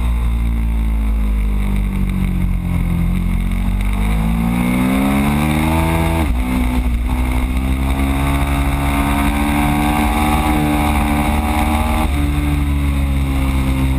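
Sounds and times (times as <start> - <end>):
motorcycle engine accelerating: 0.0 - 13.9.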